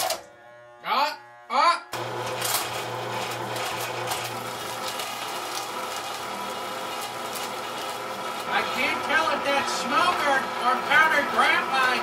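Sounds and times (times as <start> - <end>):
meat grinder motor hum: 2.0 - 12.0.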